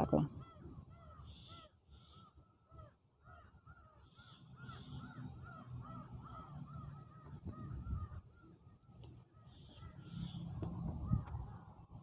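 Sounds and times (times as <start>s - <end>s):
birds chirping rapidly: 0.0s - 12.0s.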